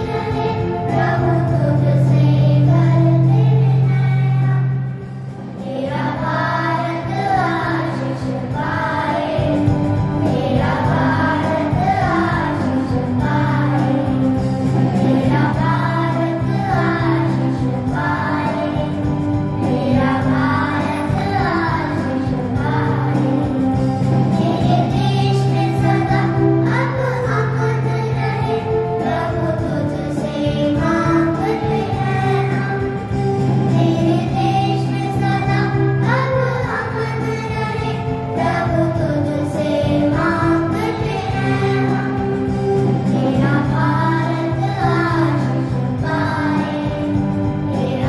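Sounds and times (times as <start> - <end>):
children's choir singing a hymn: 0.0 - 48.0.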